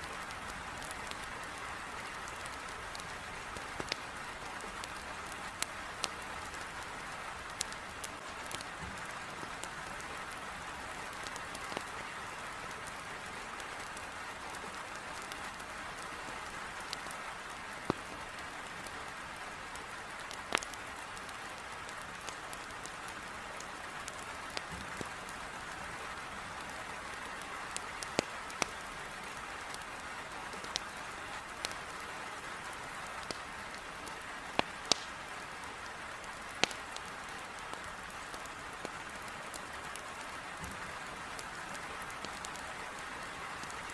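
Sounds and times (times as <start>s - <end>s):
heavy rain against a window: 0.0s - 43.9s
wood fire crackling: 0.0s - 43.9s.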